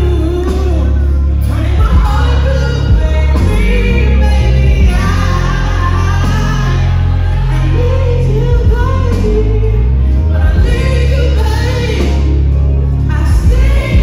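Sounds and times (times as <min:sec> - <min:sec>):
loud backing music with heavy bass: 0:00.0 - 0:14.0
woman singing into a microphone: 0:00.0 - 0:14.0.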